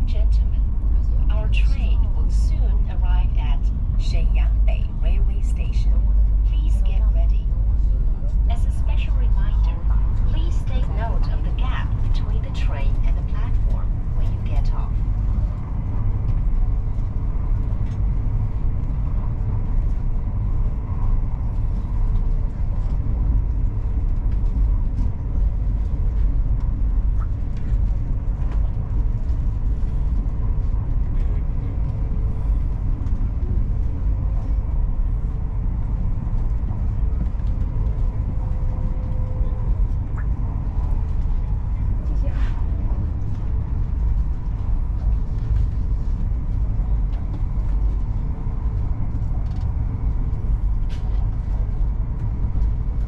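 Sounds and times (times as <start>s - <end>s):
faint steady hum: 0.0s - 53.0s
train rumbling: 0.0s - 53.0s.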